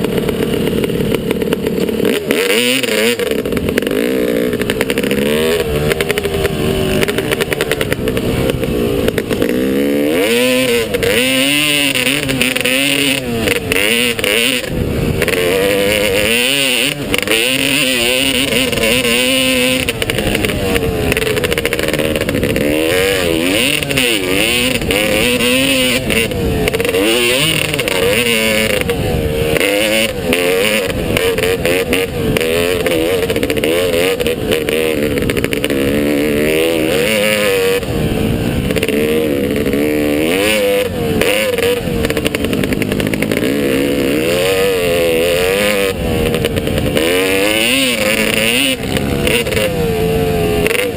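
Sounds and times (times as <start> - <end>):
motocross engine revving: 0.0 - 50.9.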